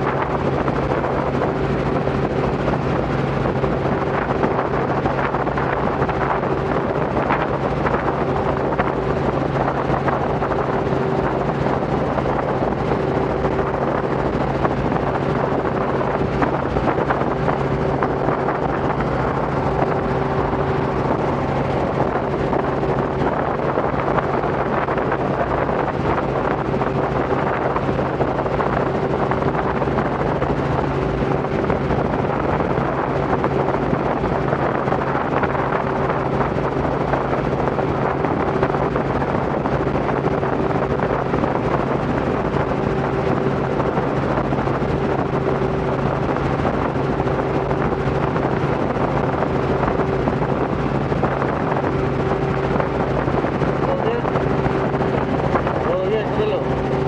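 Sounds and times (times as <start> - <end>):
helicopter engine and rotors droning: 0.0 - 57.0
wind rushing over microphone: 0.0 - 57.0.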